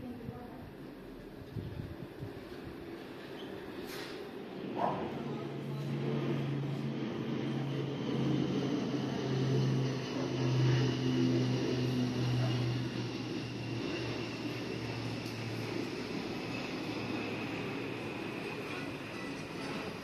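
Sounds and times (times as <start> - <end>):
low engine drone: 0.0 - 20.0.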